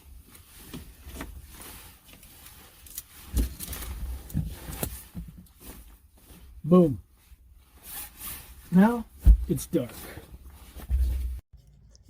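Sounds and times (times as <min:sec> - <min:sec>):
rustling inside a car: 0:00.0 - 0:11.4.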